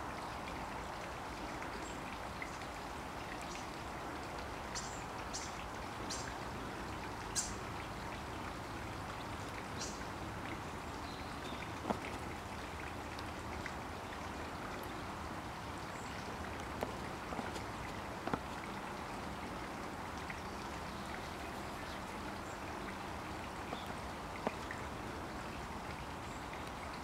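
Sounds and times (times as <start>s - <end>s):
water dripping from foliage: 0.0s - 27.0s.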